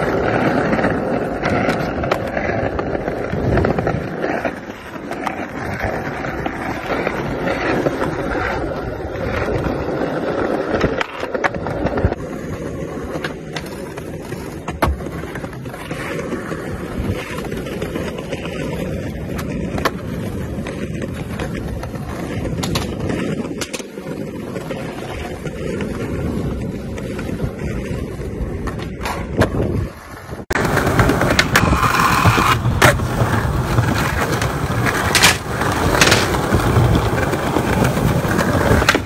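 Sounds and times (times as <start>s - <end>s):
skateboard clacks: 0.0s - 39.0s
skateboard wheels rolling on stone: 0.0s - 39.0s.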